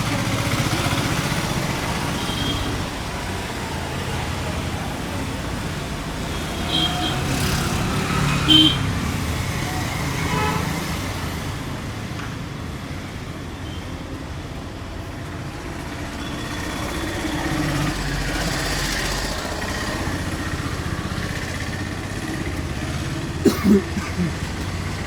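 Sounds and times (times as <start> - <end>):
motorcycle engines passing: 0.0 - 11.9, 16.0 - 25.0
roadside traffic hum: 0.0 - 25.0.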